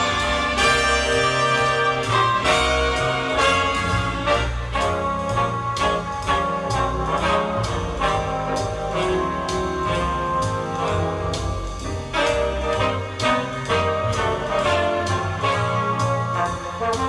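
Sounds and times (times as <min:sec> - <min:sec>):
music with brass and beat: 0:00.0 - 0:17.0.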